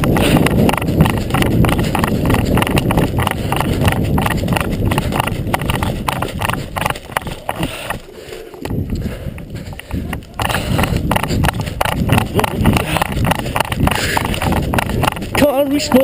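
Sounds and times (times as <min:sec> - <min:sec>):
low rumble on microphone: 0:00.0 - 0:07.9, 0:08.6 - 0:15.5
footsteps running on rough ground: 0:00.0 - 0:16.0.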